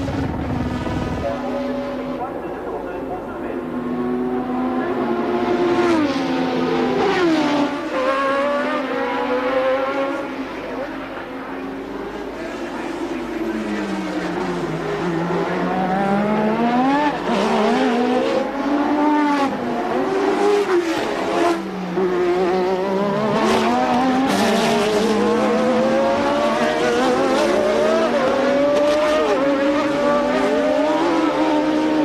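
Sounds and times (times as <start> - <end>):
racing car engines revving: 0.0 - 32.0.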